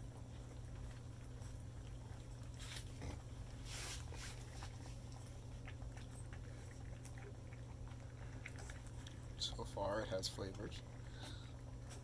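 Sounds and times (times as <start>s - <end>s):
low steady hum: 0.0s - 12.0s
puppies lapping and smacking: 0.0s - 12.0s.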